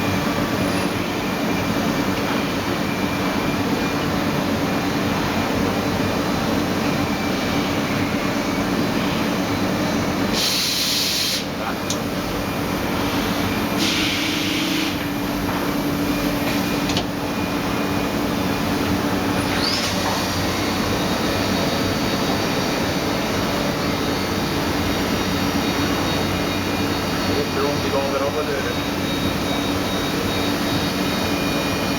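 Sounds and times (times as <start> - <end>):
milling machine humming: 0.0 - 31.9.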